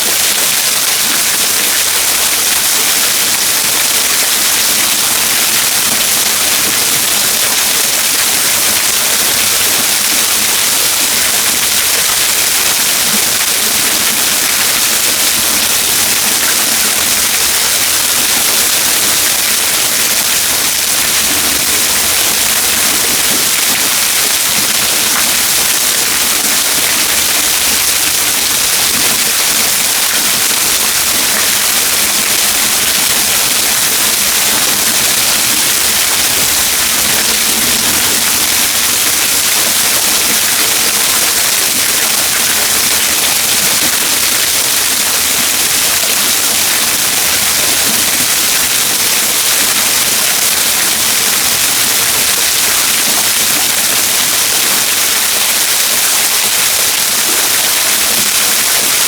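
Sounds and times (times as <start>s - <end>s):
waterfall splashing: 0.0s - 59.0s.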